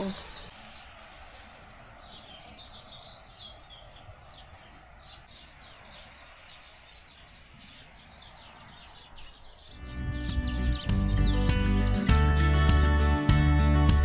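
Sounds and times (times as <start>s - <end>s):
small songbirds chirping: 0.0s - 13.8s.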